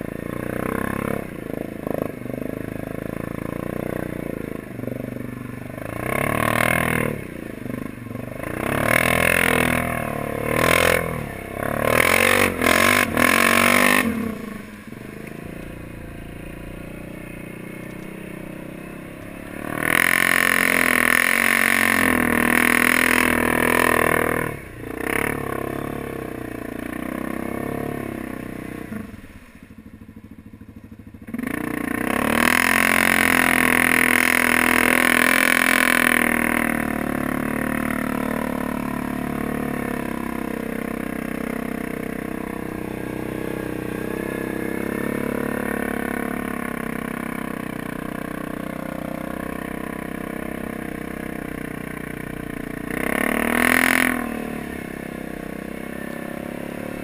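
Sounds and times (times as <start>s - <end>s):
atv engine throttling through water: 0.0s - 57.0s.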